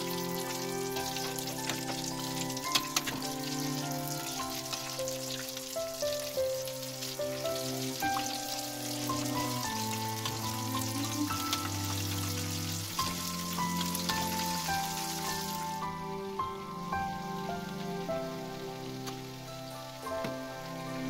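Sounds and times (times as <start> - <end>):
food frying in hot oil: 0.0 - 21.0
slow melodic background music: 0.0 - 21.0.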